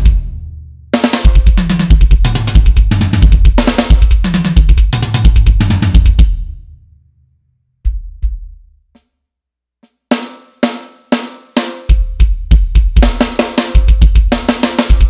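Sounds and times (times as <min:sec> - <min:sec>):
electronic drum kit: 0:00.0 - 0:06.8, 0:07.8 - 0:09.1, 0:09.8 - 0:15.0.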